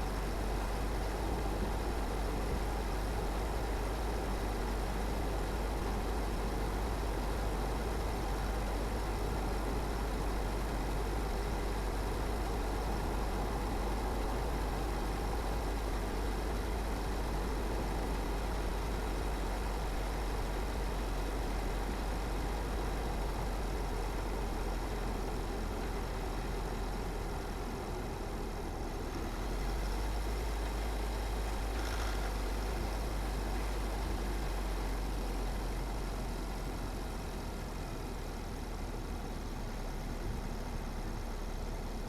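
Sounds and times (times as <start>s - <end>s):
car engine and tyre noise: 0.0s - 42.0s.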